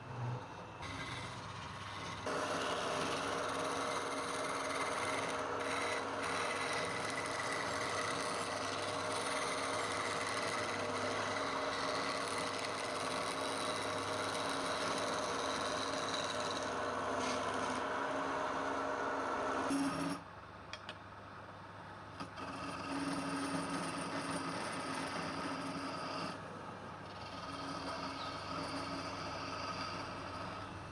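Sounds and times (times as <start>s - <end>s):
wood lathe cutting: 0.8s - 20.2s, 22.2s - 30.8s.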